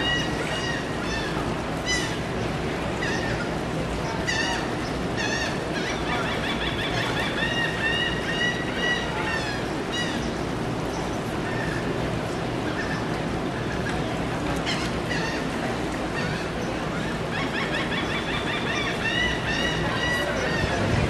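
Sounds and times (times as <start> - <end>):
gulls calling: 0.0 - 21.0
steady background noise: 0.0 - 21.0.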